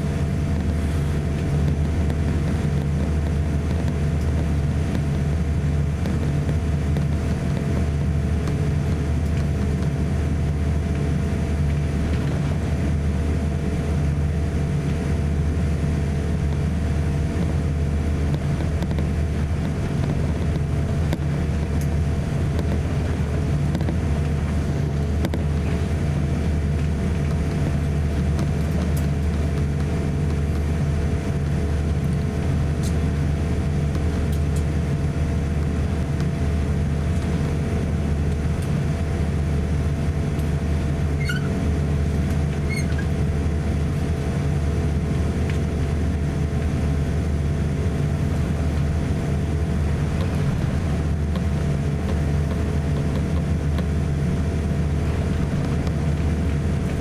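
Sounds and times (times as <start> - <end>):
aircraft cabin engine hum: 0.0 - 57.0.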